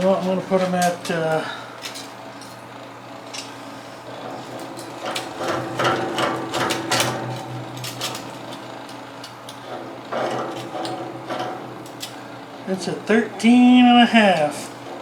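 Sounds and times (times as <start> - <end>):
metallic clicks and rattles of casters: 0.0 - 15.0.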